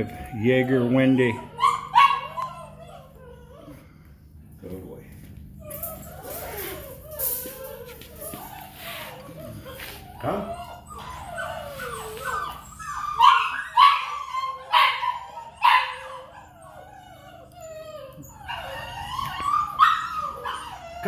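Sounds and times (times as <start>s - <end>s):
puppy whining and yelping: 0.0s - 4.1s, 5.6s - 21.0s.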